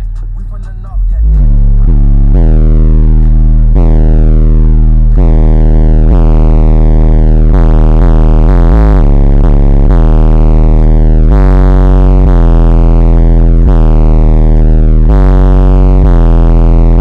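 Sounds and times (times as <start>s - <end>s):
rap music through car speakers: 0.0s - 17.0s.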